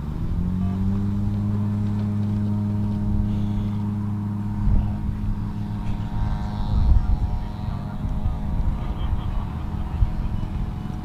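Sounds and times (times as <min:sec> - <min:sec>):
engine running steadily: 0:00.0 - 0:11.0
low rumbling bumps: 0:00.0 - 0:11.0.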